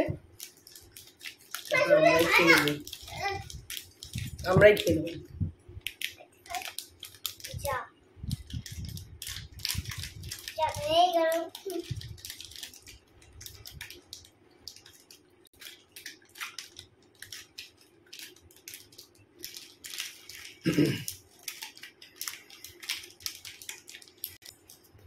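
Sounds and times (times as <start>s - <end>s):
chocolate bar being chewed: 0.2s - 1.8s, 2.6s - 5.0s, 5.8s - 7.6s, 8.2s - 25.0s
foil wrapper crinkling: 0.2s - 25.0s.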